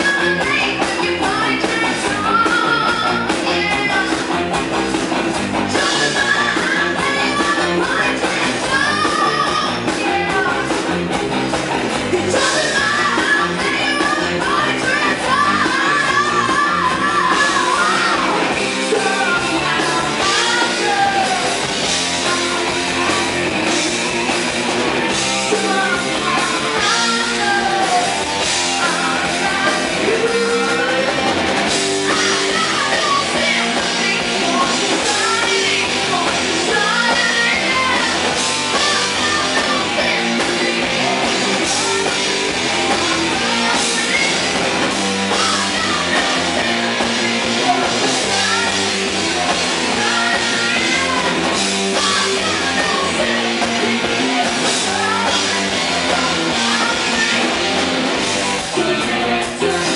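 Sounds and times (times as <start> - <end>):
woman singing: 0.0 - 4.6, 5.7 - 11.0, 12.1 - 24.1, 25.0 - 59.9
drum kit: 0.0 - 59.9
electric guitar: 0.0 - 59.9.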